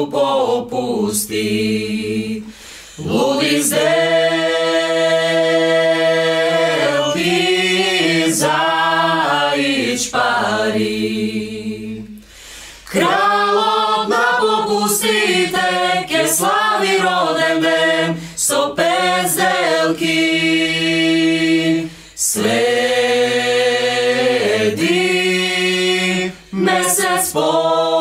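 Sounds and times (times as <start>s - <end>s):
mixed choir singing a cappella: 0.0s - 12.2s, 12.9s - 28.0s.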